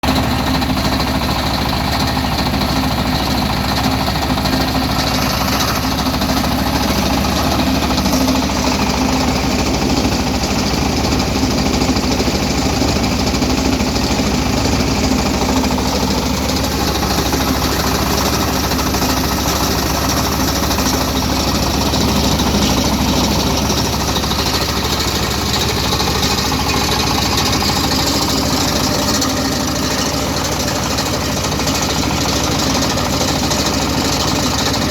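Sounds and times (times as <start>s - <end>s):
diesel engine knocking: 0.0s - 34.9s
rice milling machine running: 0.0s - 34.9s.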